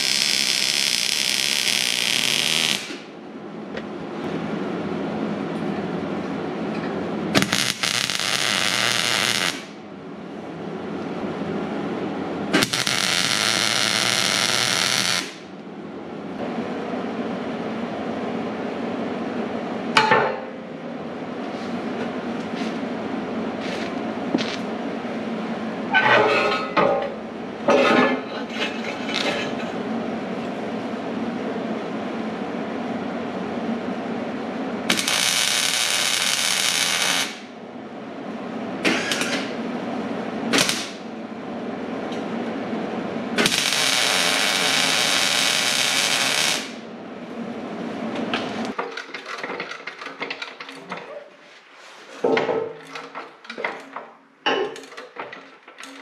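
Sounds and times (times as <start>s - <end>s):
steady machine hum: 0.0s - 48.8s.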